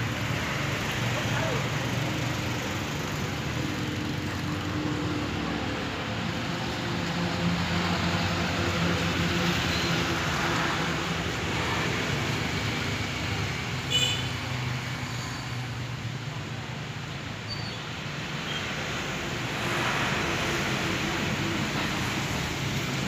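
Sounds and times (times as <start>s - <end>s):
outdoor traffic noise: 0.0s - 23.0s.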